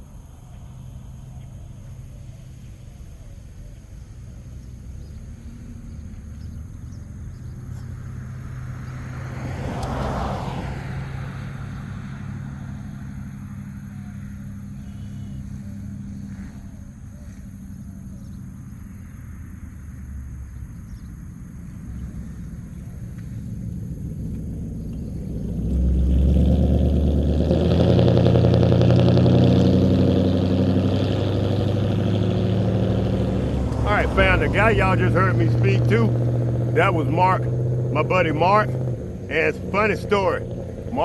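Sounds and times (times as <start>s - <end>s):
low engine hum: 0.0s - 41.0s
vehicle driving past: 4.0s - 18.3s, 21.8s - 41.0s.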